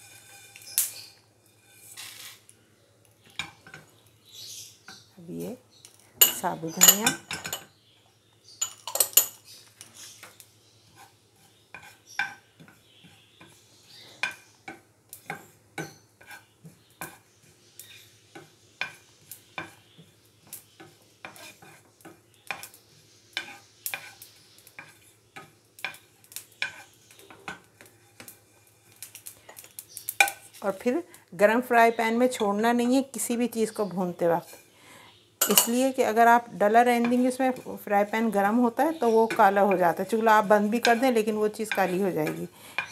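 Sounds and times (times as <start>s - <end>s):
wooden spoon stirring seeds in pan: 0.0s - 7.2s, 9.1s - 34.8s, 35.4s - 42.9s.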